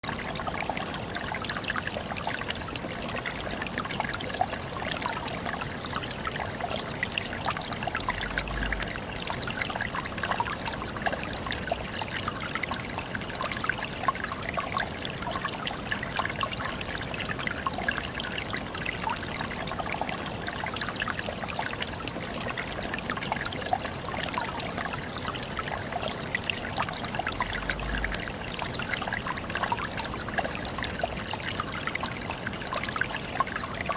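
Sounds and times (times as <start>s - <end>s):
water trickling: 0.0s - 33.9s.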